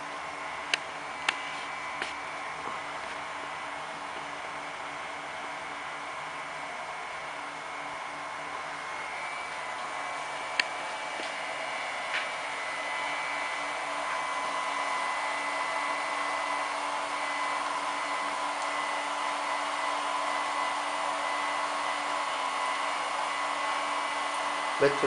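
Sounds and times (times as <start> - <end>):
charger cooling fans running: 0.0 - 25.0.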